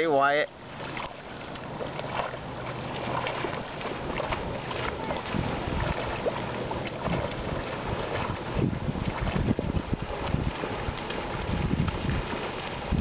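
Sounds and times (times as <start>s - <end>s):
river water lapping and splashing: 0.0s - 13.0s
wind rumbling on microphone: 0.8s - 13.0s.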